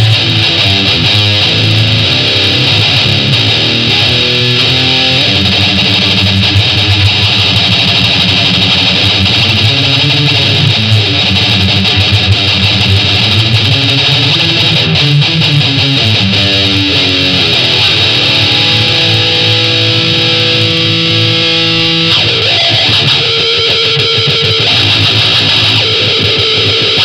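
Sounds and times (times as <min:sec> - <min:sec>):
electric guitar riffs: 0:00.0 - 0:27.0.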